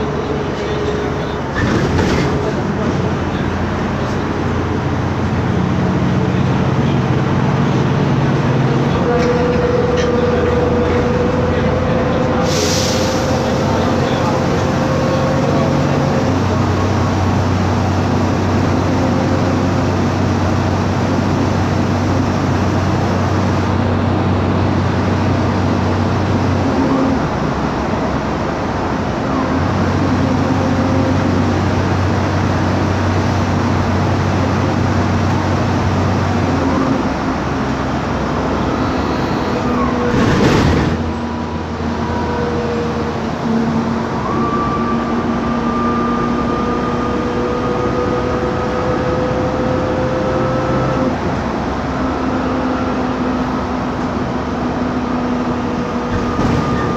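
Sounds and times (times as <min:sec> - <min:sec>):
bus engine drone: 0:00.0 - 0:56.9.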